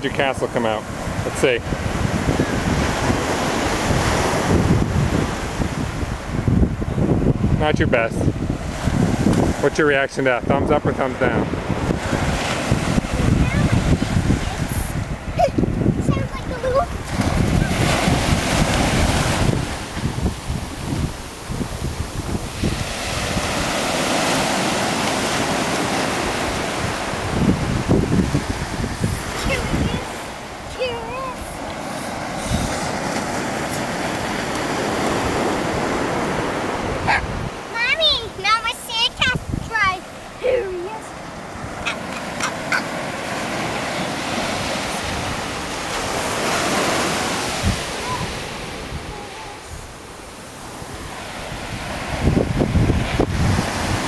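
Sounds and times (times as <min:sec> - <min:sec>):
waves breaking on beach: 0:00.0 - 0:54.0
wind buffeting microphone: 0:00.0 - 0:54.0.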